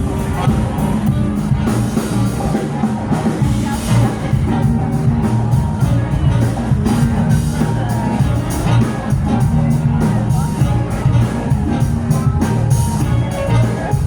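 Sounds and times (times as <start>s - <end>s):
bass line: 0.0s - 14.0s
drum kit beat: 0.0s - 14.0s
live rock band playing: 0.0s - 14.0s.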